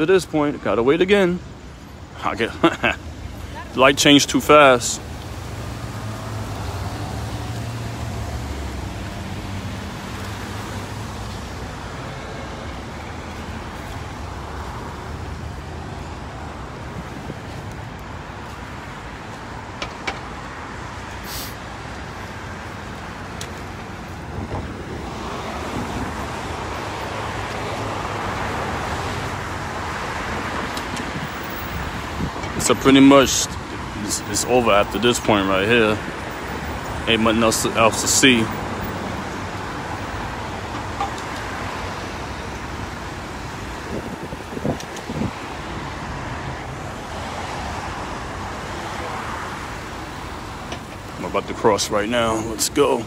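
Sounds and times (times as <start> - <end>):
cars driving past: 1.1 - 53.0.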